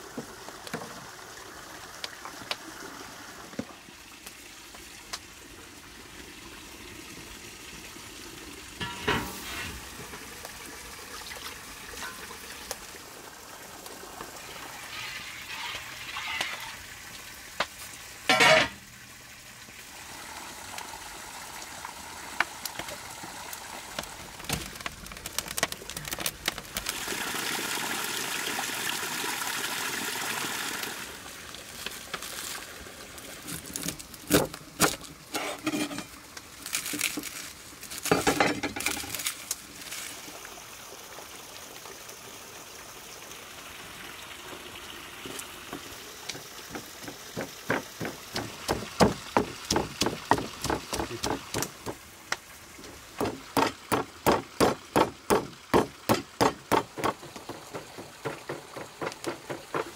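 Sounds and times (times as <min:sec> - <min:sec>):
water pouring: 0:00.0 - 0:59.9.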